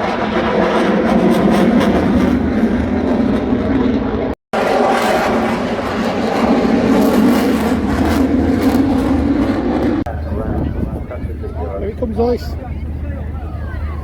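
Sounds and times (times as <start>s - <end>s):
aircraft engine running loud: 0.0s - 14.0s.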